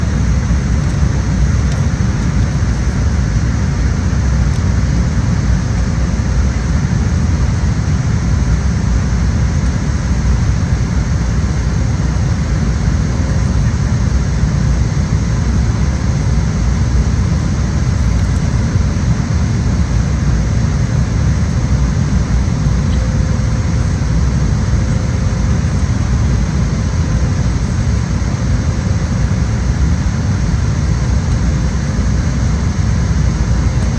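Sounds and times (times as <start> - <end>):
jet engine rumble: 0.0 - 33.9.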